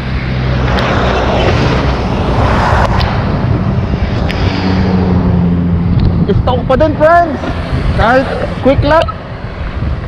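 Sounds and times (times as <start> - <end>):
motorbike passing: 0.0 - 10.0
traffic passing close by: 0.0 - 10.0.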